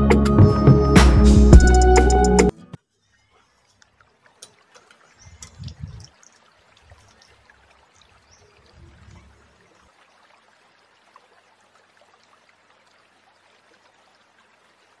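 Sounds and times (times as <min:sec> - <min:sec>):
water trickling into a pool: 0:02.9 - 0:15.0.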